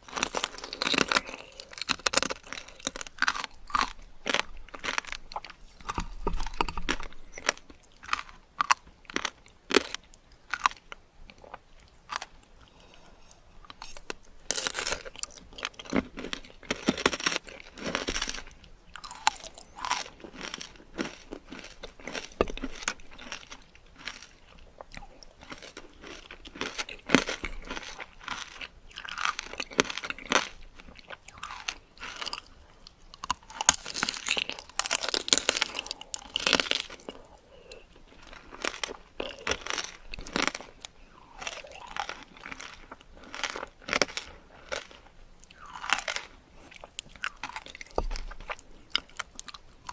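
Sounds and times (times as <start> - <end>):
candied fruit crunching: 0.0 - 13.0, 13.6 - 49.9
chewing: 0.0 - 49.9.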